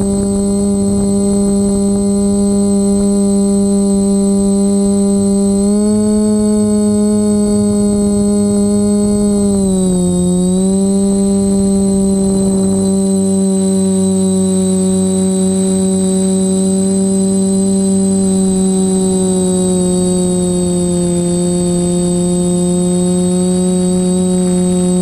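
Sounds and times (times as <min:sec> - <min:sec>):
faint high whine: 0:00.0 - 0:25.0
quadcopter propellers humming: 0:00.0 - 0:25.0.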